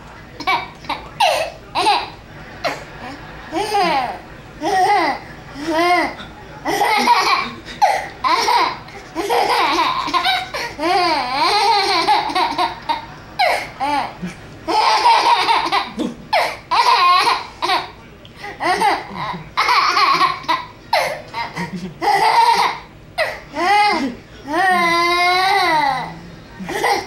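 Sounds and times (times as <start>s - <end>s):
baby laughing: 0.4s - 18.0s, 18.6s - 26.1s.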